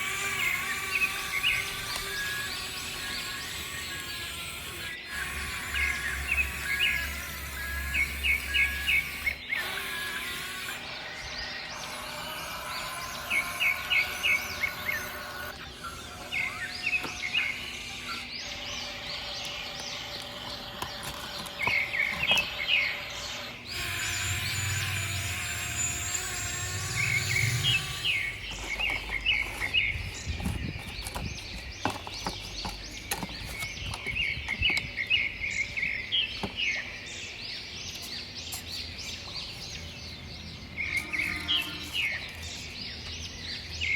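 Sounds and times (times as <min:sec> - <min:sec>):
outdoor background noise: 0:00.0 - 0:43.9
small birds chirping: 0:00.0 - 0:43.9.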